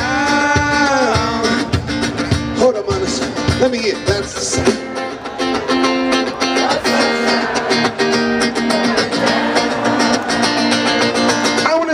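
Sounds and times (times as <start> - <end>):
live band music: 0.0 - 11.9
strummed guitar chords: 0.0 - 11.9.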